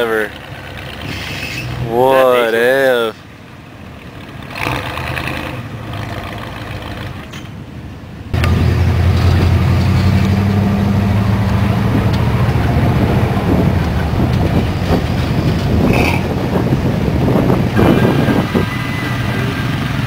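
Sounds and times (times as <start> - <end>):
diesel truck engine drone: 0.0 - 20.0.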